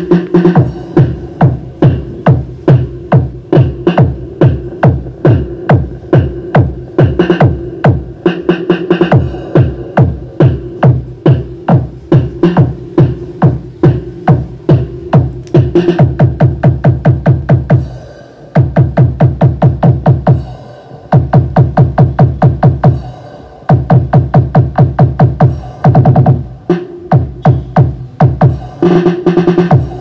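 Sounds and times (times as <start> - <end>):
electronic dance music with heavy kick: 0.0 - 30.0.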